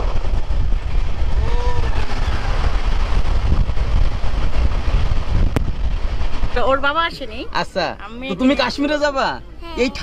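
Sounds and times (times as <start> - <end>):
train rumble: 0.0 - 8.1
wind buffeting microphone: 0.0 - 8.2.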